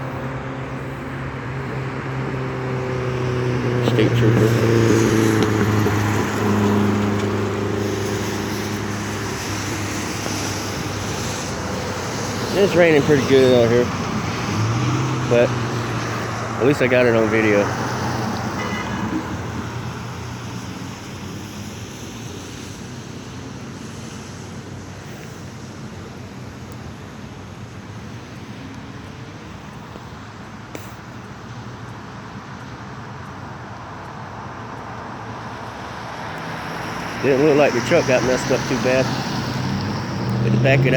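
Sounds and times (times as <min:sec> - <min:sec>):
road traffic: 0:00.0 - 0:40.9
vehicle engine humming: 0:00.0 - 0:40.9
rain hiss: 0:03.4 - 0:30.2, 0:34.3 - 0:40.9.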